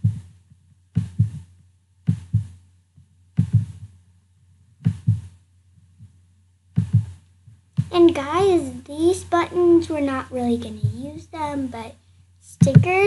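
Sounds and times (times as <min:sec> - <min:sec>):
soft low thumps: 0:00.0 - 0:11.8, 0:12.6 - 0:13.0
steady low hum: 0:00.0 - 0:13.0.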